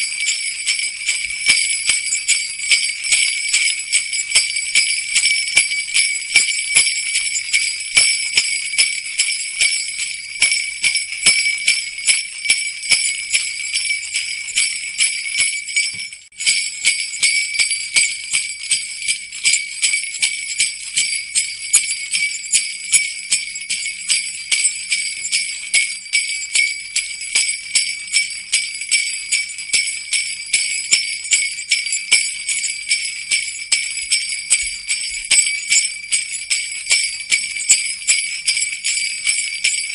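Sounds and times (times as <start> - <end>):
jingle bells shaken: 0.0 - 39.9.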